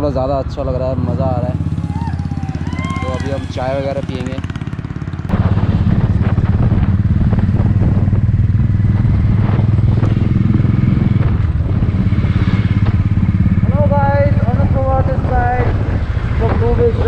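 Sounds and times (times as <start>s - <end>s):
motorcycle engine running: 0.7s - 17.0s.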